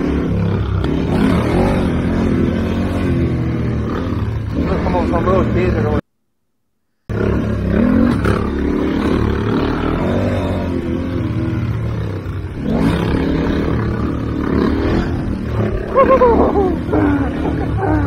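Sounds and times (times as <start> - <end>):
motorcycle engines revving: 0.0 - 6.0, 7.1 - 18.0.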